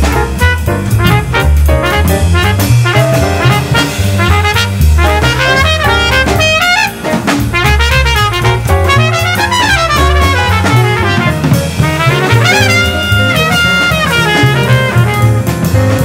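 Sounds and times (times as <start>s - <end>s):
bass: 0.0s - 16.0s
brass instruments playing melody: 0.0s - 16.0s
drum kit: 0.0s - 16.0s.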